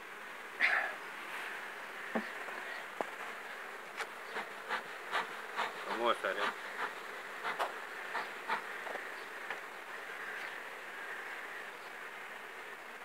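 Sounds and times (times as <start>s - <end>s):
honey bees buzzing: 0.0s - 13.0s
bee smoker puffs: 0.4s - 13.0s.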